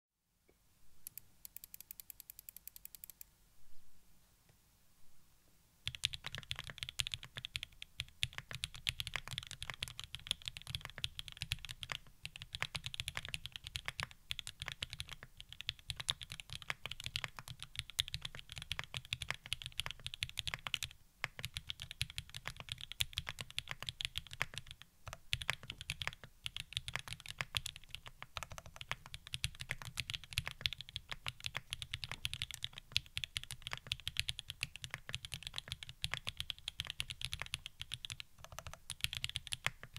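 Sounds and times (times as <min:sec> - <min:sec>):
mechanical keyboard typing: 0:01.0 - 0:03.2, 0:05.8 - 0:39.9.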